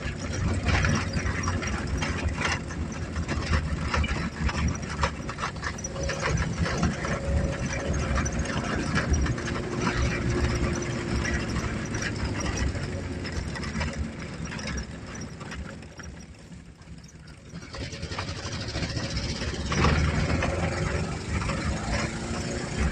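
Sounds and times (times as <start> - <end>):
car engine with rough exhaust: 0.0 - 22.9
knocks and rattles: 0.0 - 22.9.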